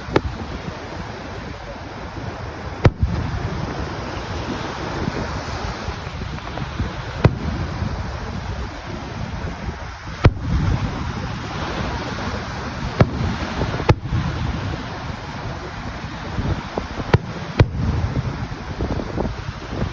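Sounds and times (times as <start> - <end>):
fireworks bangs: 0.0 - 19.9
wind on microphone: 0.0 - 19.9.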